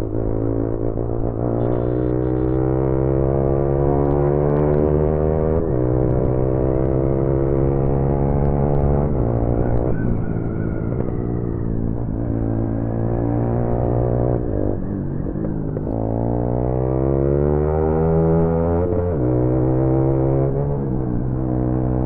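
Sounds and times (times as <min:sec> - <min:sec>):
motorcycle engine shifting gears: 0:00.0 - 0:22.0.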